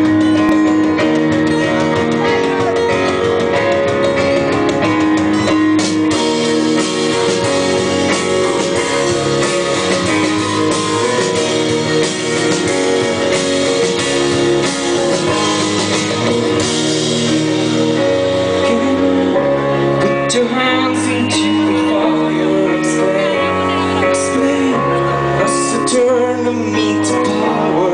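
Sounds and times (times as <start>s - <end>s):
drum kit beat: 0.0s - 27.9s
electric bass: 0.0s - 27.9s.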